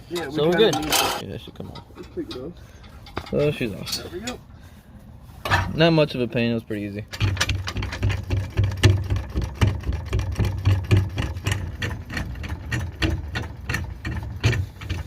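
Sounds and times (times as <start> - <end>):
metallic rattles and knocks: 0.0 - 4.4, 7.0 - 15.0.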